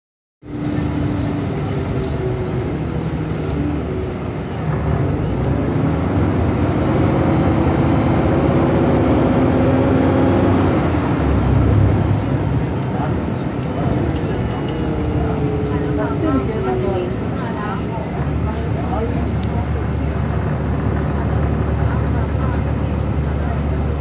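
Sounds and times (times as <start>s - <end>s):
bus diesel engine running: 0.4s - 24.0s.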